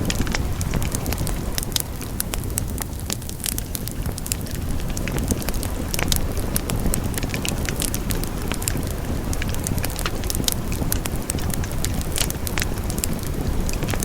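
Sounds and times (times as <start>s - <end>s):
burning wood crackling and popping: 0.0s - 14.0s
low rumble of flames: 0.0s - 14.0s.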